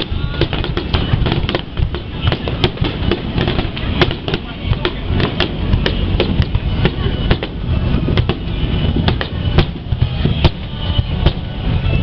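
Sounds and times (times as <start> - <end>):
fireworks bangs and cracks: 0.0 - 11.8
continuous low rumble: 0.0 - 12.0.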